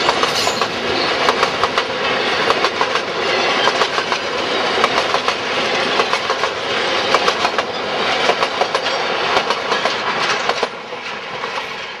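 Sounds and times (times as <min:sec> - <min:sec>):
train wheels clattering on track: 0:00.0 - 0:12.0.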